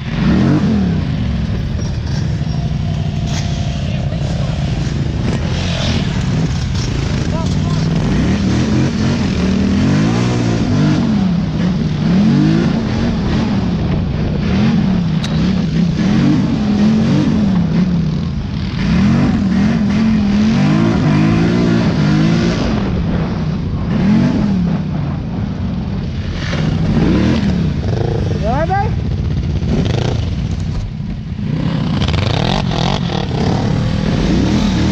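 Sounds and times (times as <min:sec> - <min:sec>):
off-road vehicle engine revving: 0:00.0 - 0:24.8, 0:26.1 - 0:30.8, 0:31.4 - 0:34.9.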